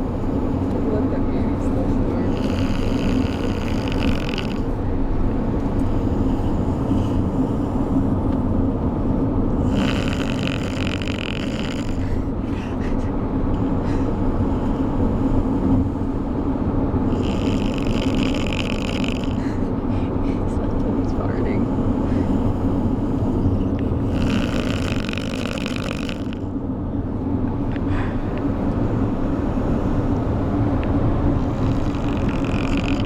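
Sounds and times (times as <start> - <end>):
dog snoring: 0.0 - 12.8, 13.6 - 16.4, 17.0 - 19.8, 20.7 - 26.6, 27.8 - 33.0
car road noise rumble: 0.0 - 33.0.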